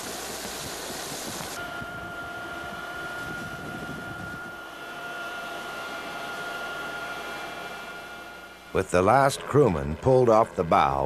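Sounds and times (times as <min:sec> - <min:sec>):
helicopter turbine whine: 0:00.0 - 0:11.0.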